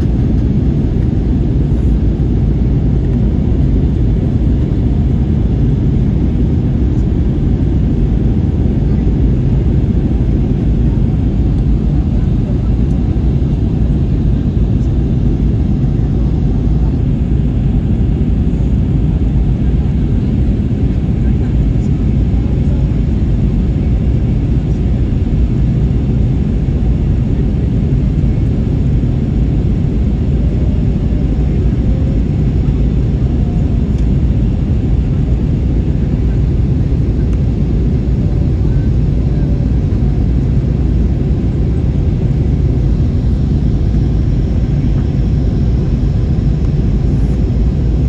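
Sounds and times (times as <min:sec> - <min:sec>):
aircraft engines rumbling in cabin: 0:00.0 - 0:48.0.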